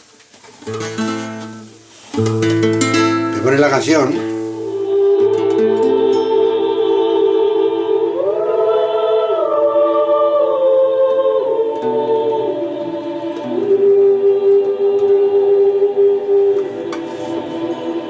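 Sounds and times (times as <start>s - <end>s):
choir singing held chords: 2.7s - 18.0s.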